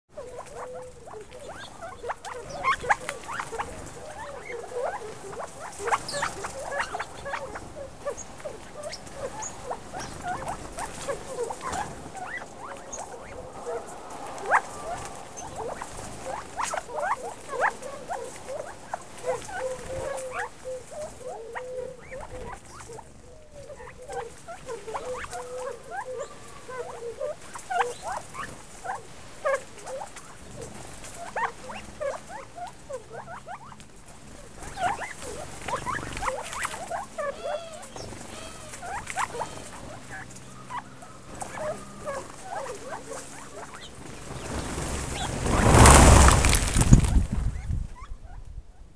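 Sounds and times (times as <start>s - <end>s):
low warbling bird call: 0.2s - 28.5s, 34.7s - 48.4s
birds pecking on gravel: 0.2s - 47.5s
quail chirping: 0.2s - 48.4s.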